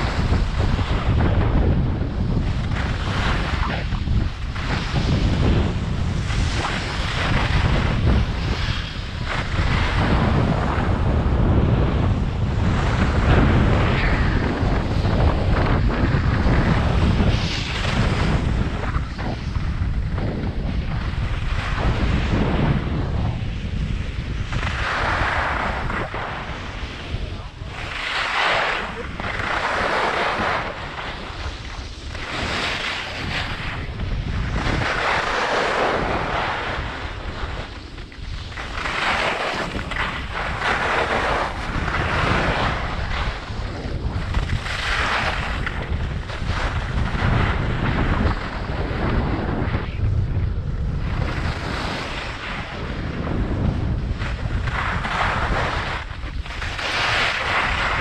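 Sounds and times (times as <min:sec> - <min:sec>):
skis scraping on snow: 0:00.0 - 0:58.0
wind on microphone: 0:00.0 - 0:58.0.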